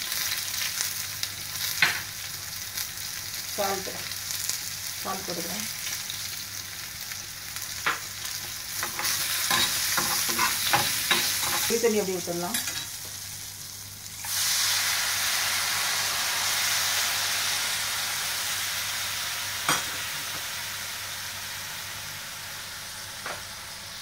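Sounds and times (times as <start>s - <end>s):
liquid sizzling in hot pan: 0.0s - 24.0s.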